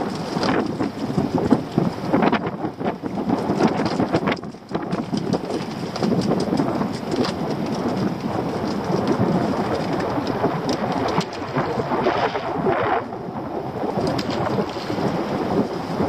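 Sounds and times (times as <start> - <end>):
water splashes: 0.0 - 16.0
wind buffeting microphone: 0.0 - 16.0.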